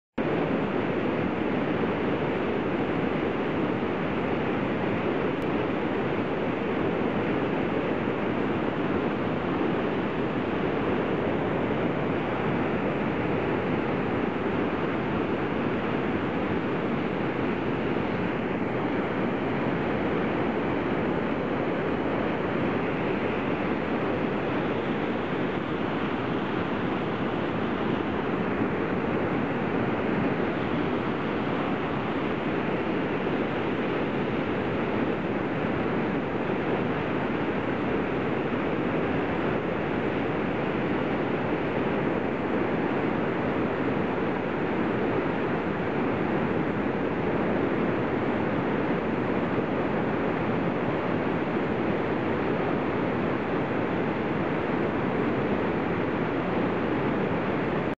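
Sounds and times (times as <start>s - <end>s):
rushing whitewater: 0.2s - 58.0s.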